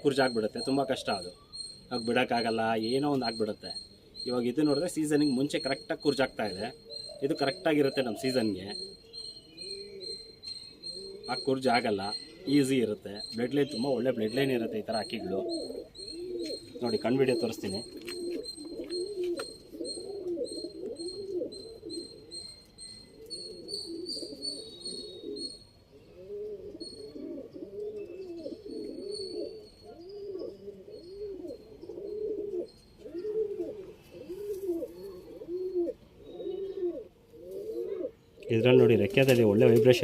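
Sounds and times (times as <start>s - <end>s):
faint high-pitched chirp: 0.0s - 40.0s
pigeons cooing: 0.0s - 40.0s.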